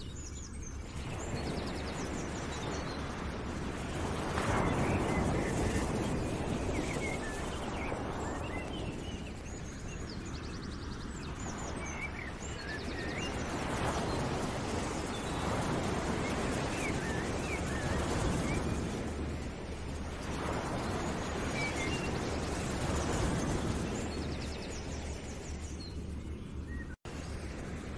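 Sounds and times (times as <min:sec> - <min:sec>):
steady rushing noise: 0:00.5 - 0:27.9.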